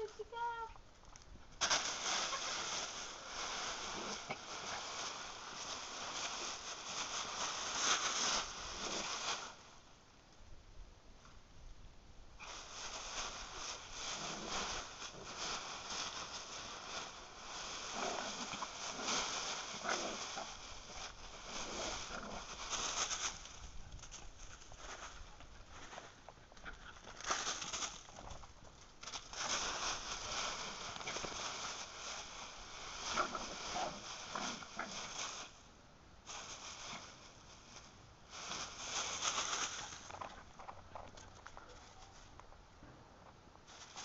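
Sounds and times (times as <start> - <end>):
dry leaves rustling and crackling: 0.0 - 9.8, 12.4 - 42.5, 43.7 - 44.0.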